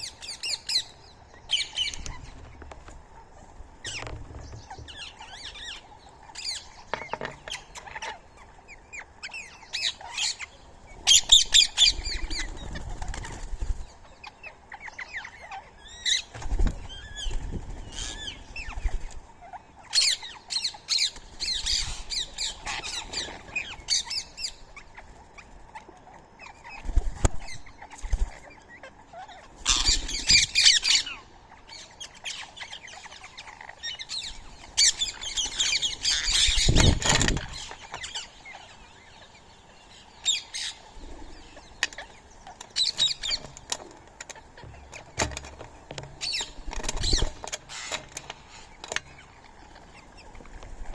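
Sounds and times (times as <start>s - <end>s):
birds chattering and squawking: 0.0s - 50.9s.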